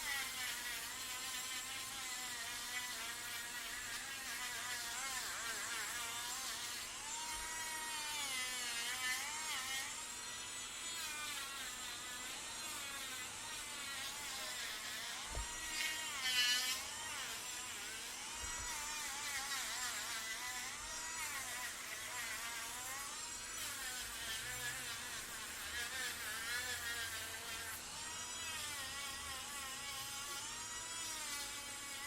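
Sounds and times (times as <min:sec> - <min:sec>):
electric nail drill buzzing: 0:00.0 - 0:32.0.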